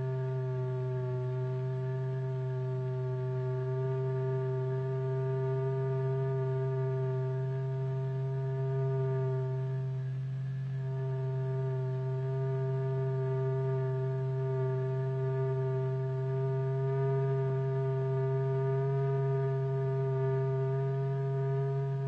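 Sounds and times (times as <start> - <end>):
steady low electronic tone: 0.0 - 22.0.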